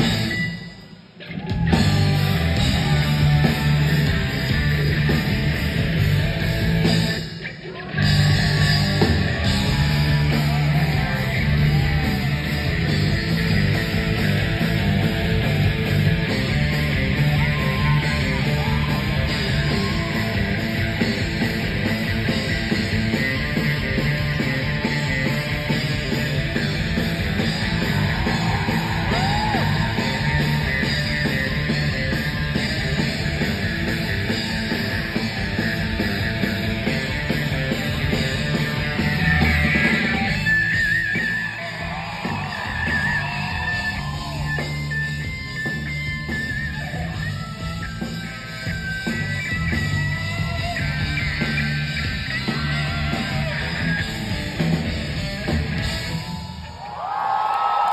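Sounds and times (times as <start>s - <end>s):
live rock band playing: 0.0s - 56.7s.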